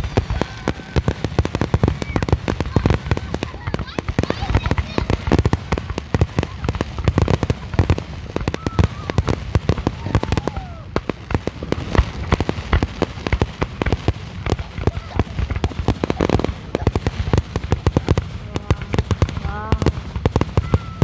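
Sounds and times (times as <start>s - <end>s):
fireworks popping and banging: 0.0s - 21.0s.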